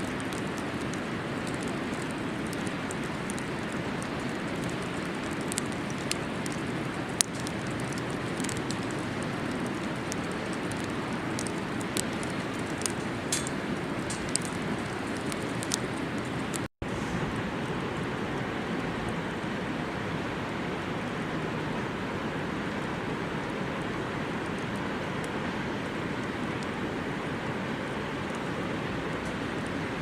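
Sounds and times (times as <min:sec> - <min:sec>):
campfire crackling and popping: 0:00.0 - 0:19.5, 0:22.6 - 0:30.0
steady rushing hiss: 0:00.0 - 0:30.0.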